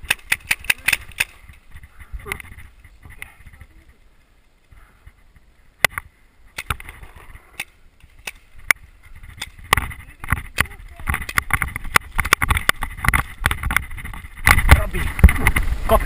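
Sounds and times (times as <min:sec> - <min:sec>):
sharp pops: 0:00.0 - 0:03.7, 0:05.8 - 0:15.7.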